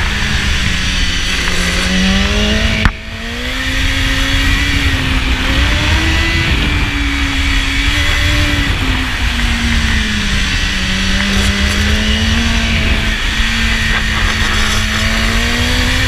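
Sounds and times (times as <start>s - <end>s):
motorcycle engine revving: 0.0s - 16.0s
wind buffeting microphone: 0.0s - 16.0s.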